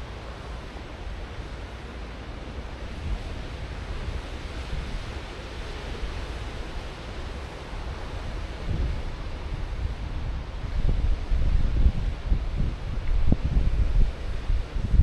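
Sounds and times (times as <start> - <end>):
ocean surf washing ashore: 0.0 - 15.0
wind rumbling on microphone: 0.0 - 15.0.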